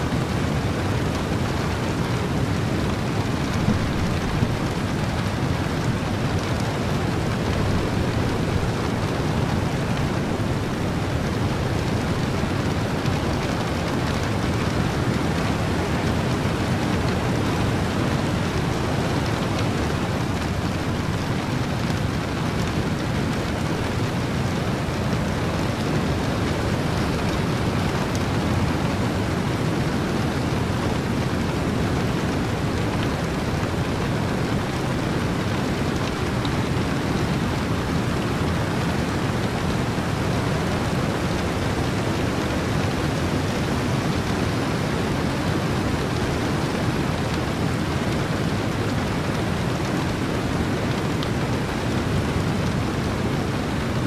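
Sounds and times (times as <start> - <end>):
steady rain and wind: 0.0 - 54.0.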